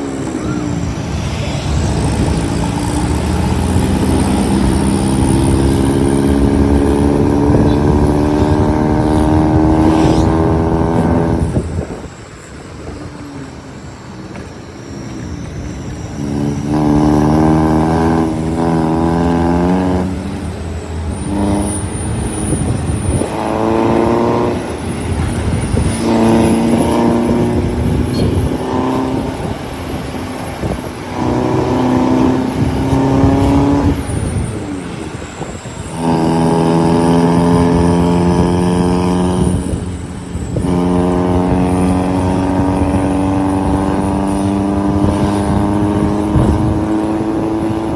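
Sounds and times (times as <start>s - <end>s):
diesel engines working hard: 0.0s - 47.9s.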